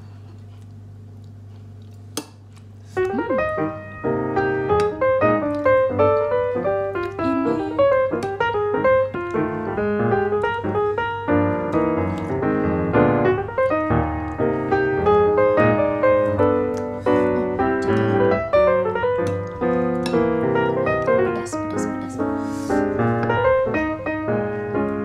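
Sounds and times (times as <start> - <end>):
piano music: 3.0 - 25.0.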